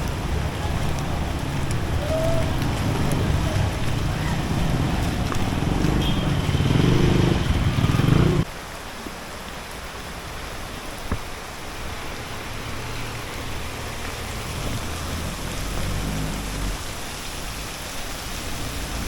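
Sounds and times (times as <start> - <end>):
vehicle engine humming: 0.0 - 8.5, 11.8 - 19.0
rain hissing on street: 0.0 - 19.0.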